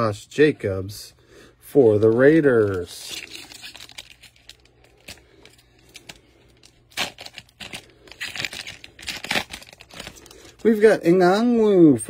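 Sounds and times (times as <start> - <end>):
plastic wrapper tearing and crinkling: 1.9 - 11.6.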